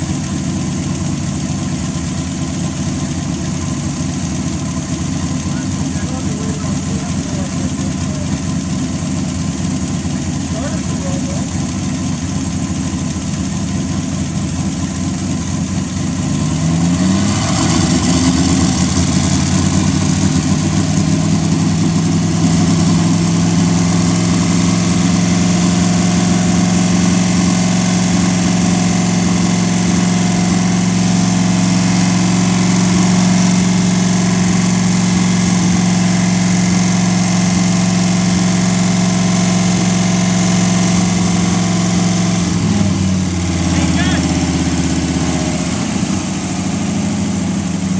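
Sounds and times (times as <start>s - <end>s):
engine revving to fast idle: 0.0s - 47.9s.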